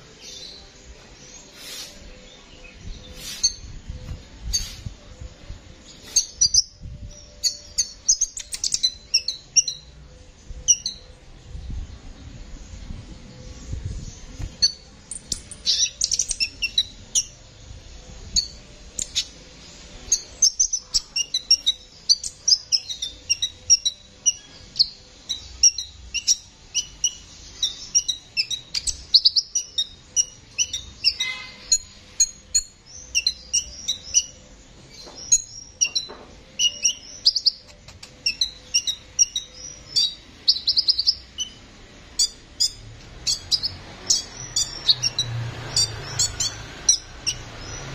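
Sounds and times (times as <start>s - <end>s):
bird singing chirps and trills: 0.0s - 47.9s.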